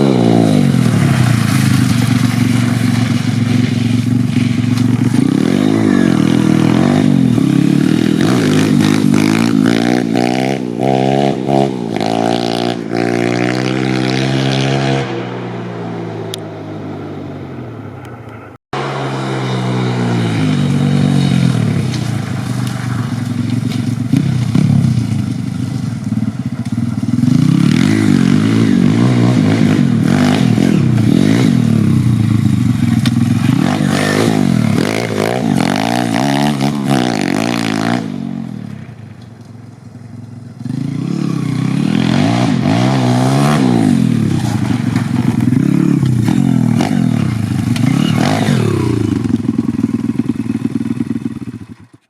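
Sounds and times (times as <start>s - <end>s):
motorbike engine revving hard: 0.0s - 17.3s, 18.8s - 38.9s, 40.6s - 52.0s.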